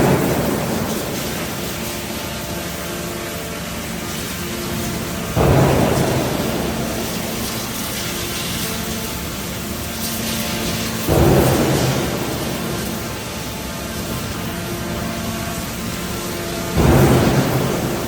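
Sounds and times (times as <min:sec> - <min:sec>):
forging machinery roar: 0:00.0 - 0:18.0
loud rumbling surge: 0:00.0 - 0:18.0.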